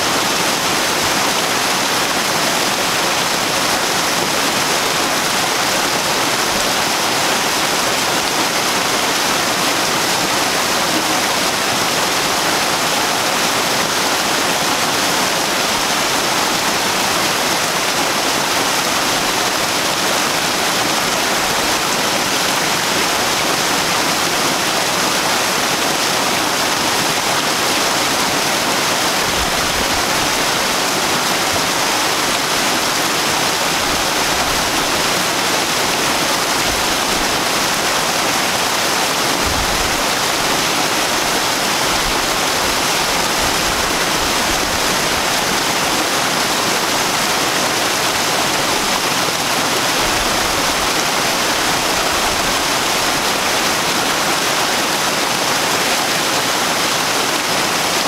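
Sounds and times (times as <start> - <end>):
waterfall splashing into pool: 0.0 - 58.0.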